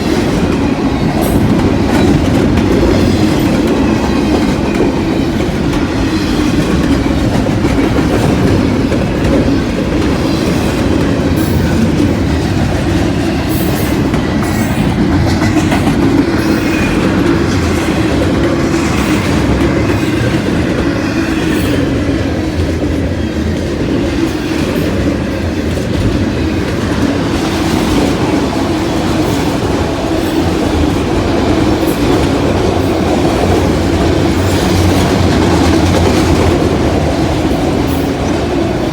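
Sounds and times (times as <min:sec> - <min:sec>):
freight train rolling past: 0:00.0 - 0:38.9
wheels clicking over rail joints: 0:00.0 - 0:38.9.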